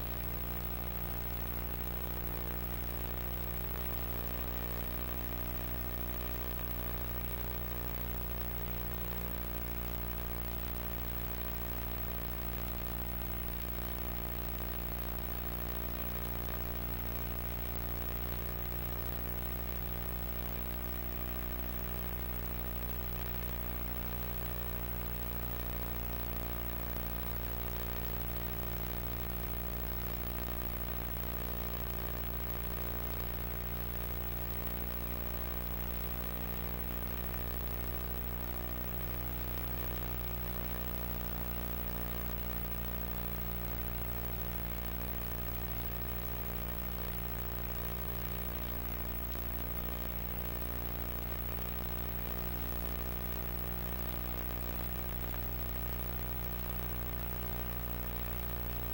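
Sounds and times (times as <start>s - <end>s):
constant hiss: 0.0s - 58.9s
electrical hum and buzz: 0.0s - 58.9s.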